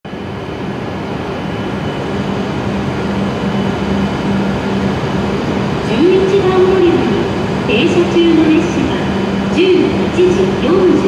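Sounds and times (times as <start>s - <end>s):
train rumble: 0.0s - 11.0s
low pulsing hum: 0.1s - 11.0s.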